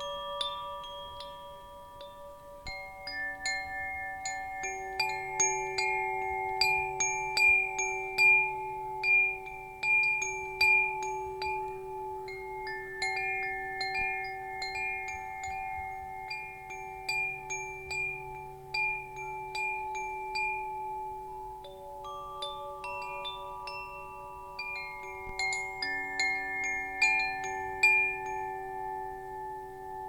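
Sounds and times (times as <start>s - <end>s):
wind chimes ringing: 0.0s - 30.0s.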